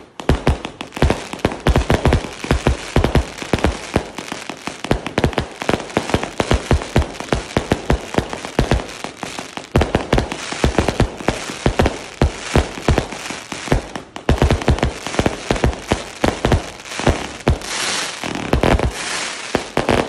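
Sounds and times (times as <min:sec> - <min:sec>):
crackling stars hiss: 0:00.0 - 0:20.0
fireworks launch thumps and bursts: 0:00.0 - 0:20.0.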